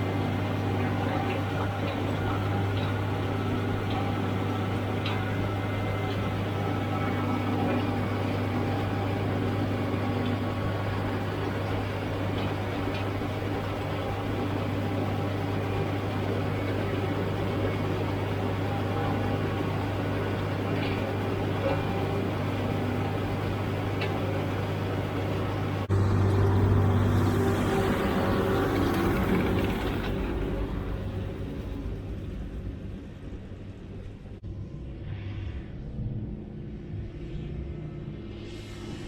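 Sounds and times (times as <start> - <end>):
tractor engine drone: 0.0 - 34.8.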